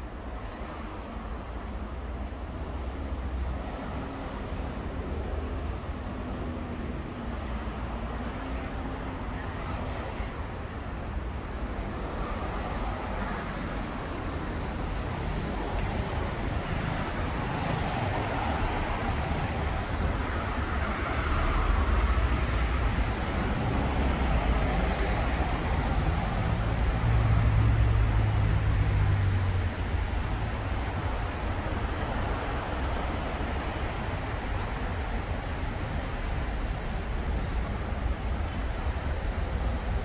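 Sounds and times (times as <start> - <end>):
road traffic on wet roads: 0.0 - 40.0.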